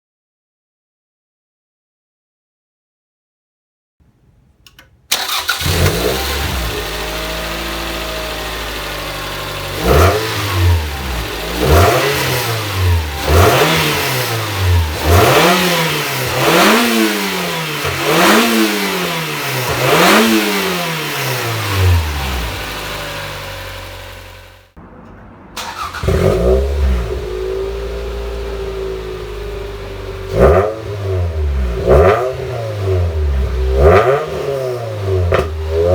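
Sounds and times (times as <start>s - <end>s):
car engine starting: 4.7s - 35.9s
car engine revving and idling: 5.1s - 35.9s.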